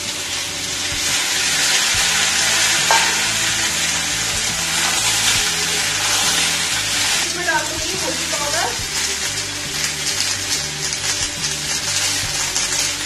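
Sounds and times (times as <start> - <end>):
spatula stirring in wok: 0.0 - 13.0
vegetables sizzling in oil: 0.0 - 13.0.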